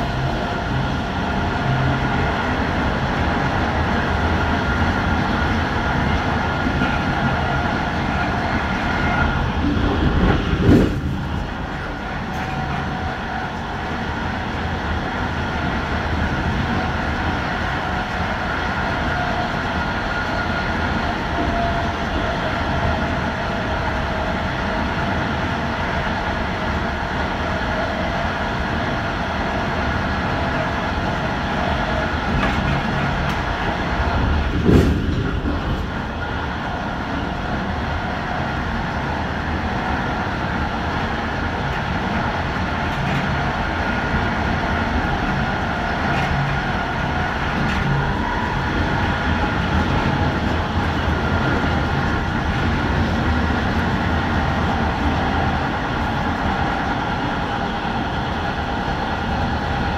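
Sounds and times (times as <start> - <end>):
steady whine: 0.0 - 59.9
train wheels rumbling on rail: 0.0 - 59.9.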